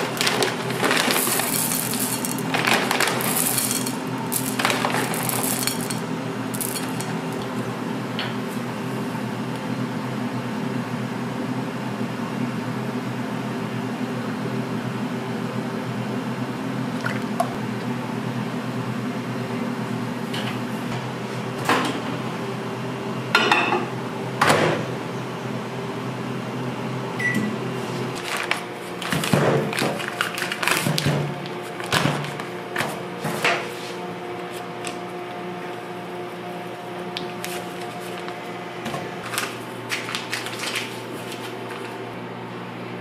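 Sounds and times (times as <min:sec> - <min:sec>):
microwave oven humming: 0:00.0 - 0:43.0.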